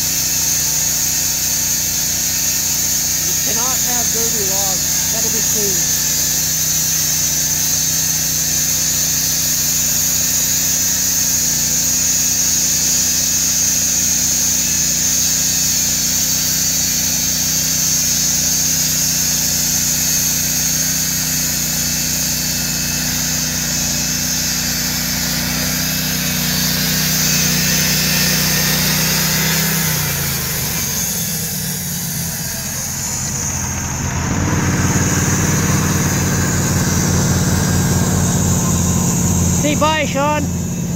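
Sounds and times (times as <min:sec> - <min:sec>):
band blade sawing log with hiss: 0:00.0 - 0:40.8
gas engine running: 0:00.0 - 0:40.9.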